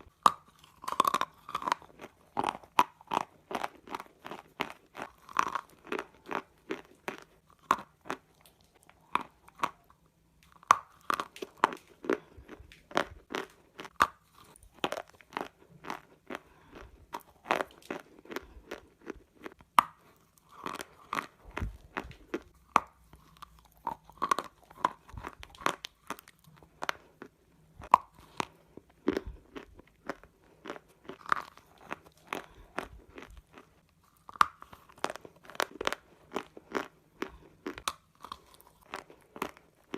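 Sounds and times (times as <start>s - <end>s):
clay pot pieces crunching: 0.0s - 39.9s.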